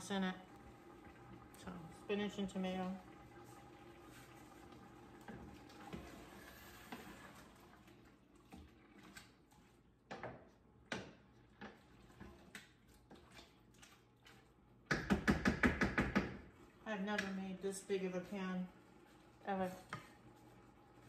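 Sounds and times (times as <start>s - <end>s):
wooden spoon stirring in metal pot: 2.5s - 21.0s.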